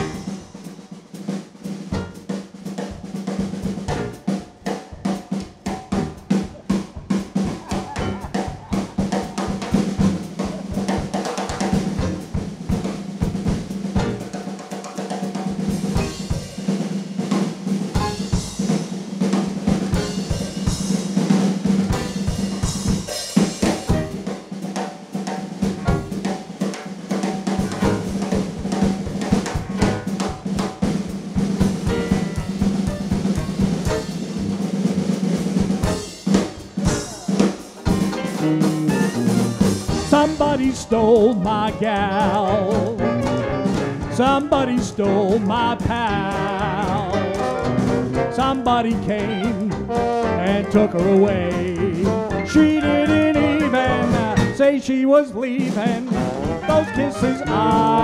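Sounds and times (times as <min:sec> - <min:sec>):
bass drum strokes: 0:00.0 - 0:14.5, 0:15.5 - 0:24.6, 0:27.4 - 0:54.7, 0:55.6 - 0:58.0
snare drum rolls and rimshots: 0:00.0 - 0:58.0.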